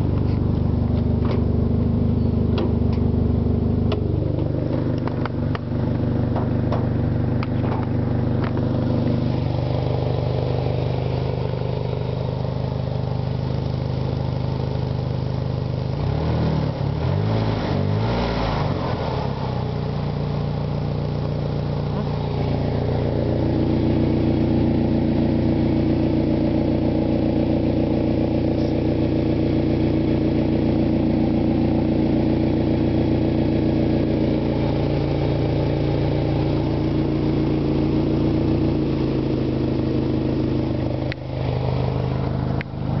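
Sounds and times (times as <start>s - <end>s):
car engine hum: 0.0s - 43.0s
road noise: 0.0s - 43.0s.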